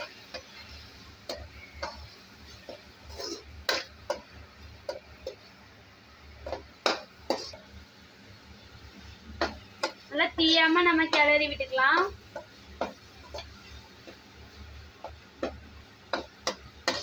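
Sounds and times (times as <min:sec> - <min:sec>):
spoon knocking and scraping pan: 0:00.0 - 0:05.6, 0:06.4 - 0:07.8, 0:09.2 - 0:17.0.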